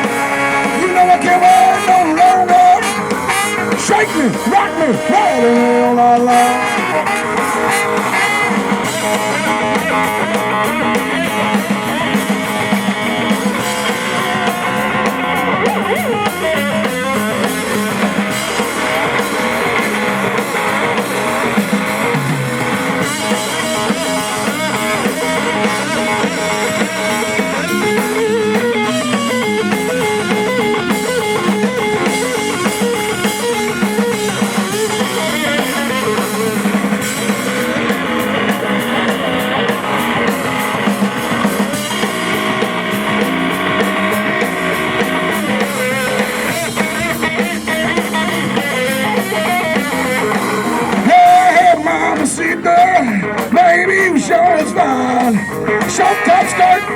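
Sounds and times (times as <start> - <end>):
blues-rock band playing: 0.0 - 56.9
electric guitar: 0.0 - 56.9.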